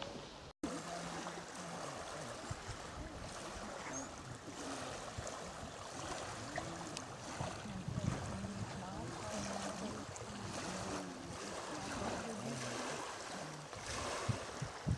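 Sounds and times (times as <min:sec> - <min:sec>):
water rushing: 0:00.0 - 0:14.9
wind: 0:00.0 - 0:14.9.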